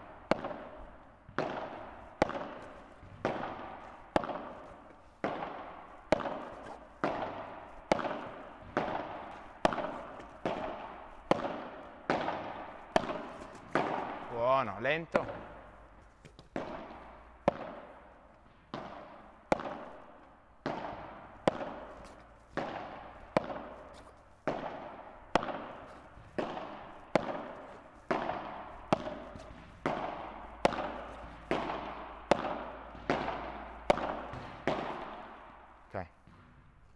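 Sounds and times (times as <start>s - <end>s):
rackets striking ball with echo: 0.0s - 36.9s.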